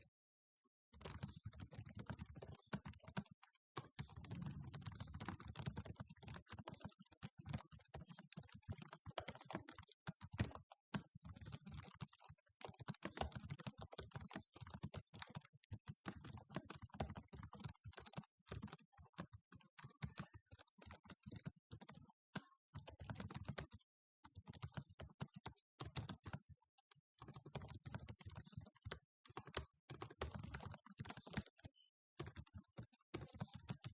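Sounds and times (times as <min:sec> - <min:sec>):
fast typing on keyboard: 0:01.0 - 0:33.9.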